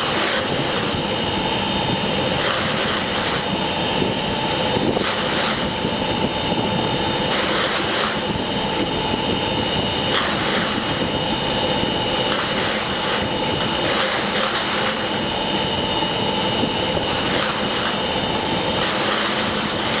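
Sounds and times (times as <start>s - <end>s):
large machine droning and whining: 0.0s - 20.0s.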